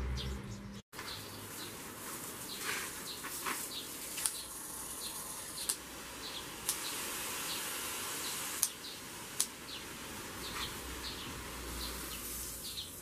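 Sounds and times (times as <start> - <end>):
birds chirping: 0.0 - 13.0
hose spray gun hissing: 1.0 - 13.0.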